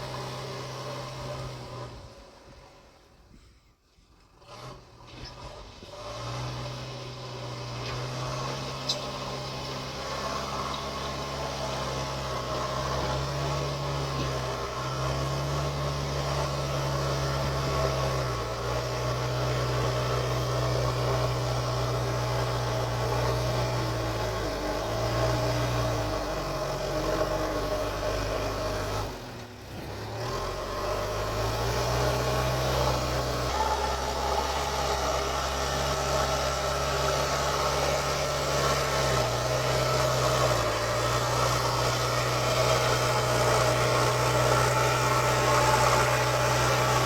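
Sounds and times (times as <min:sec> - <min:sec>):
diesel engine revving: 0:00.0 - 0:03.0, 0:04.2 - 0:47.0.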